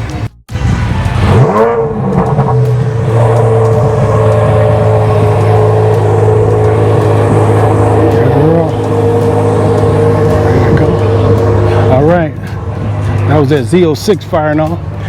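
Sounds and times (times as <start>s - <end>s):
car engine starting and idling: 0.0s - 15.0s.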